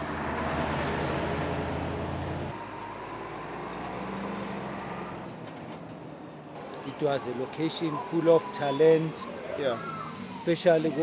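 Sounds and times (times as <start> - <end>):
truck engine: 0.0 - 11.0
vehicles passing: 0.0 - 11.0.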